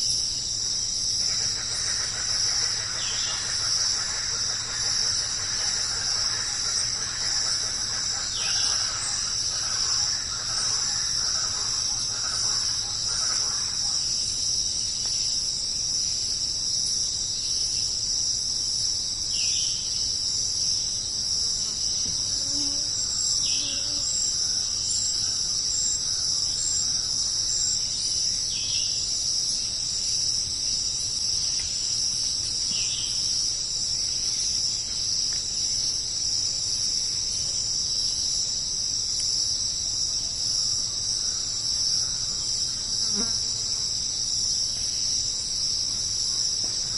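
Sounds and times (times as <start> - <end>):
high-pitched insect chorus: 0.0 - 46.9.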